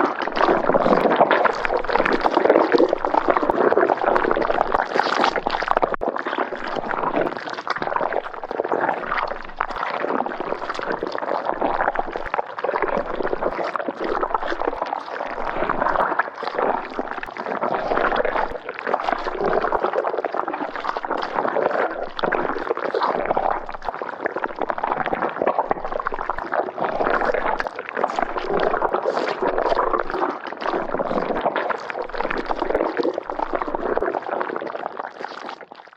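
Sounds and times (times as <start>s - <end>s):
thick liquid bubbling: 0.0s - 35.9s.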